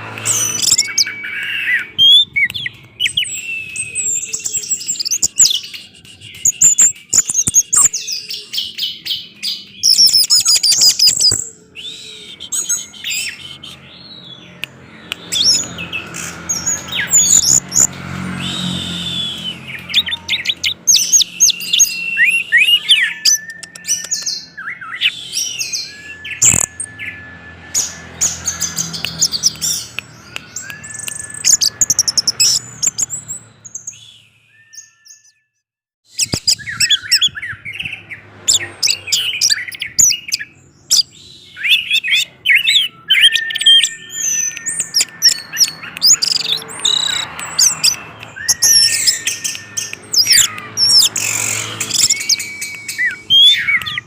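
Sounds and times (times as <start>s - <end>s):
thrush singing: 0.0s - 34.1s, 36.5s - 54.0s.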